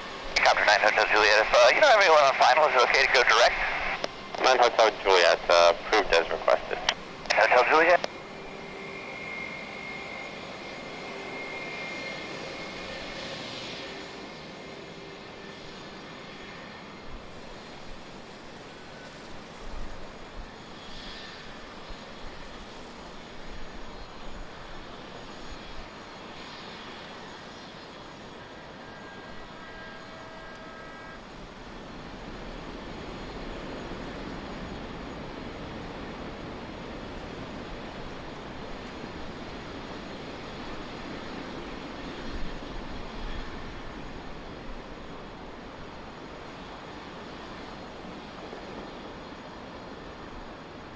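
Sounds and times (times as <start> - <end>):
distant jet engines running: 0.0 - 50.9
faint whine: 0.0 - 50.9.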